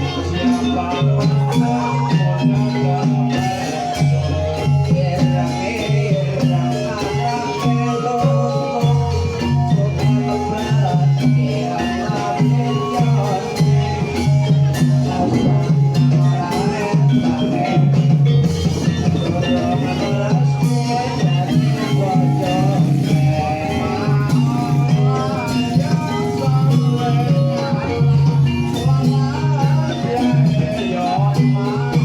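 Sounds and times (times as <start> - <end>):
drum and rattle strokes: 0.0 - 32.0
gamelan music: 0.0 - 32.0.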